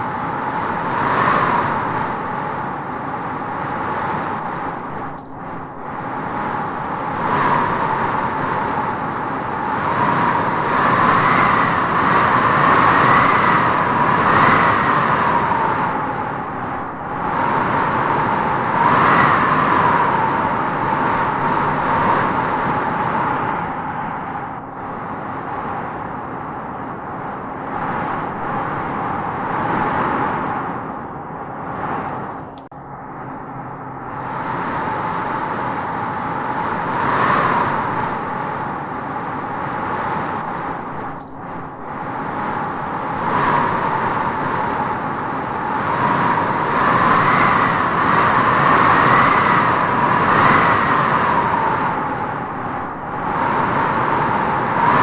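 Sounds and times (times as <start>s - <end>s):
wind howling in gusts: 0.0s - 55.0s.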